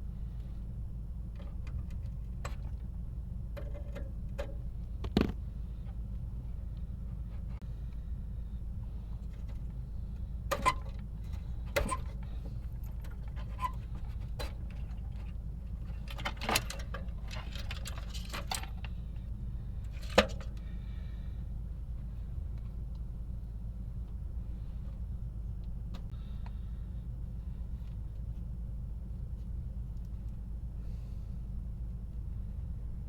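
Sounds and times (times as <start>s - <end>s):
steady low rumble: 4.2s - 16.1s, 17.1s - 33.0s.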